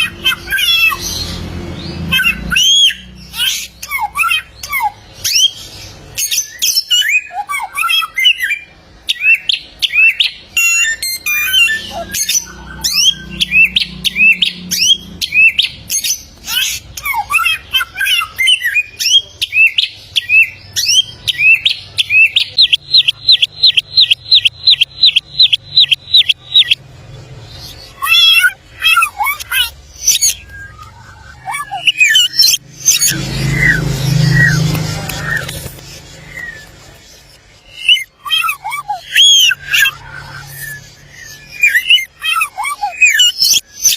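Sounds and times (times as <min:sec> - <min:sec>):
bird singing whistled song: 0:06.2 - 0:26.8, 0:27.7 - 0:43.9.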